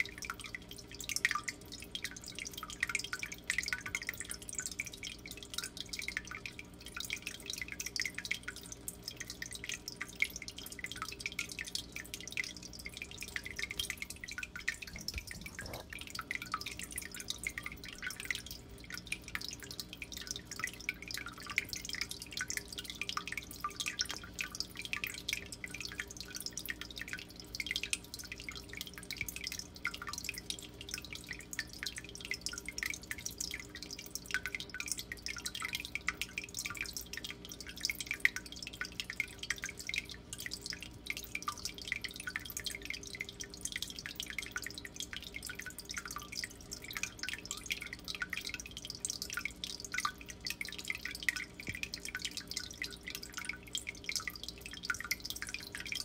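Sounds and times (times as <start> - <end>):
aquarium water trickling and dripping: 0.0 - 56.0.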